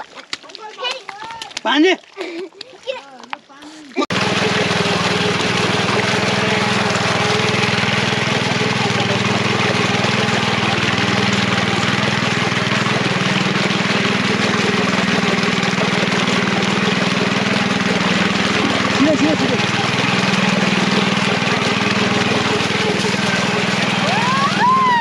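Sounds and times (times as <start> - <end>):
blades churning through mud: 0.0 - 25.0
tiller engine droning: 4.0 - 25.0.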